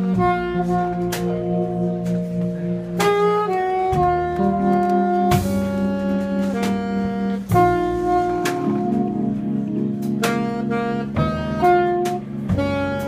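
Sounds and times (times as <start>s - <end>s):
band accompanying: 0.0s - 13.0s
drum strokes: 0.0s - 13.0s
saxophone jazz melody: 0.0s - 13.0s.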